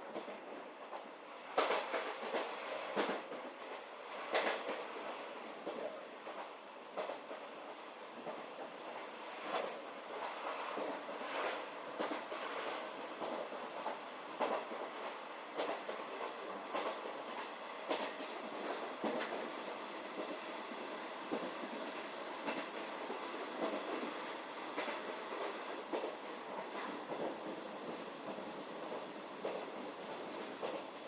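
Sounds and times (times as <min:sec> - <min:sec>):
train running noise: 0:00.0 - 0:31.0
train wheels clacking over rail joints: 0:00.1 - 0:07.5, 0:08.2 - 0:20.4, 0:21.3 - 0:31.0.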